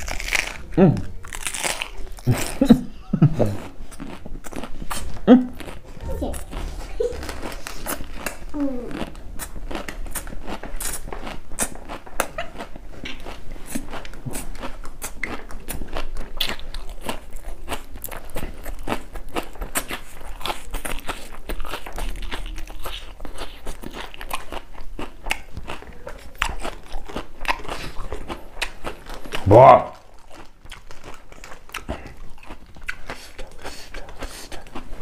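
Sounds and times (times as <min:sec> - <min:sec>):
crunchy chewing of raw vegetables: 0:00.0 - 0:35.0.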